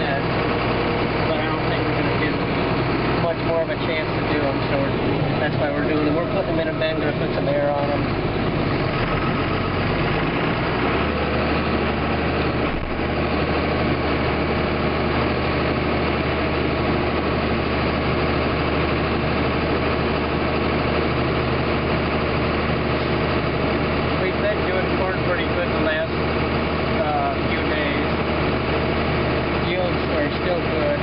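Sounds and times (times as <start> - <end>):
combine harvester engine drone: 0.0 - 31.0.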